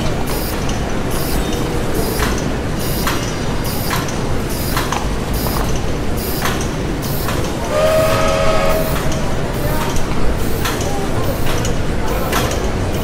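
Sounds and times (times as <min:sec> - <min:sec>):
repeating hissing stroke: 0:00.0 - 0:11.7.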